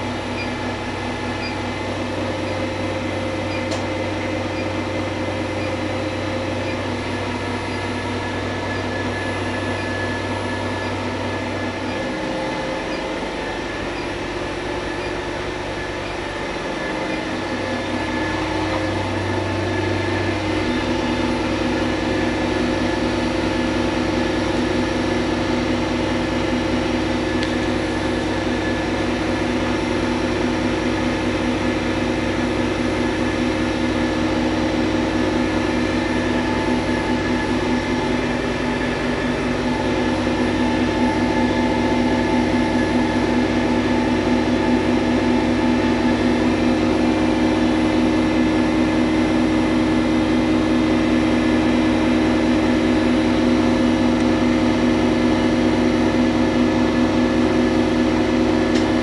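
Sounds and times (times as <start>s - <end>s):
machinery humming: 0.0s - 59.0s
steady machine tones: 0.0s - 59.0s.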